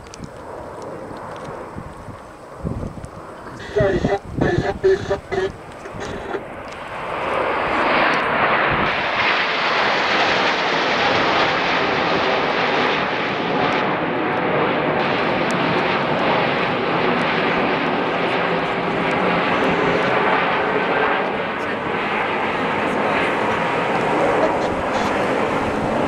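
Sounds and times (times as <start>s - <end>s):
jets passing overhead: 0.2s - 26.0s.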